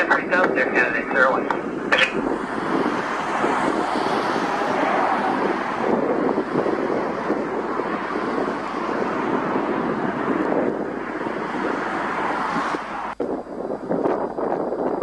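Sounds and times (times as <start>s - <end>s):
jet engine roar: 0.0s - 13.7s
wind on microphone: 0.0s - 15.0s.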